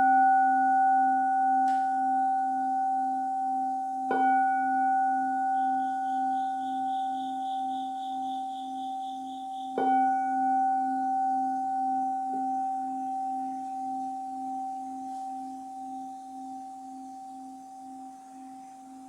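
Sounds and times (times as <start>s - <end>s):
bowl bell ringing: 0.0s - 19.0s.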